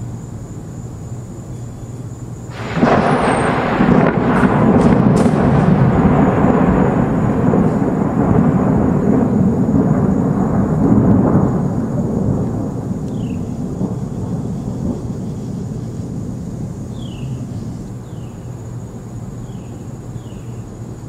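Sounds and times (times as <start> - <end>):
thunder rumbling: 2.5 - 20.2.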